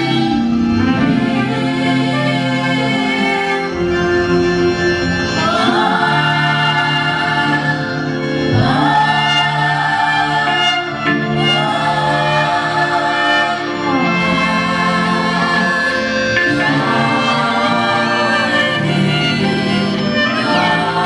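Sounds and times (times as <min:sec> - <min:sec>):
choir singing: 0:00.0 - 0:21.0
instrumental accompaniment: 0:00.0 - 0:21.0.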